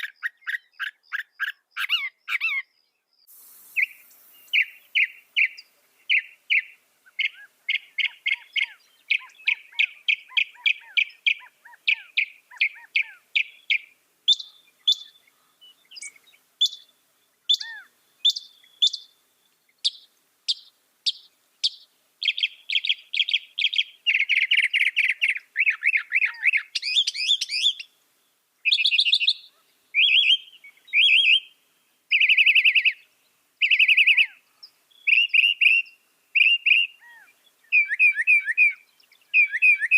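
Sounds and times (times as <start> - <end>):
mockingbird singing: 0.0 - 2.8, 3.7 - 28.0, 28.6 - 39.9.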